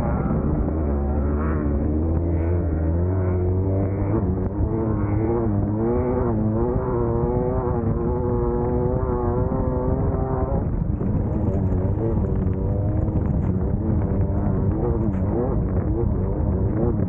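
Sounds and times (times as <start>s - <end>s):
low rumble: 0.0s - 17.0s
race buggy engine running hard: 0.0s - 17.0s.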